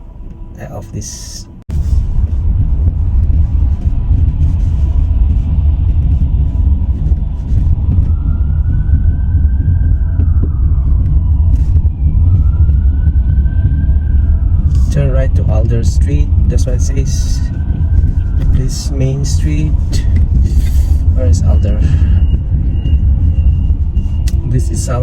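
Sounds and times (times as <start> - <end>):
car interior rumble: 0.0 - 25.0
faint siren wailing: 0.0 - 25.0.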